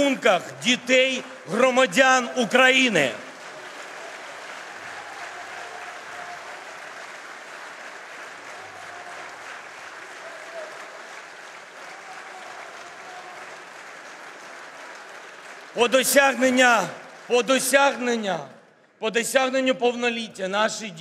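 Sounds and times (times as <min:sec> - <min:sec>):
crowd applauding: 0:00.0 - 0:18.6.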